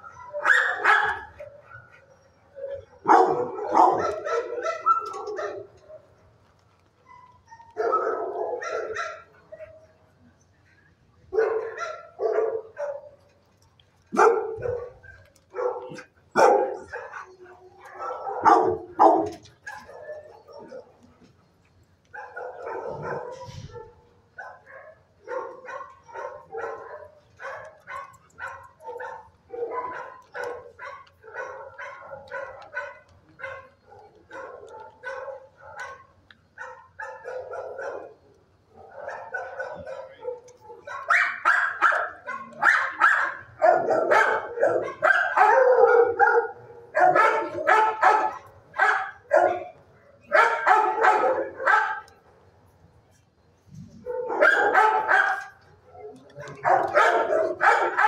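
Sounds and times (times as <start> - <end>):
dogs barking: 0.0 - 6.2, 6.8 - 10.0, 11.3 - 13.4, 14.0 - 21.3, 22.0 - 52.4, 53.9 - 58.0.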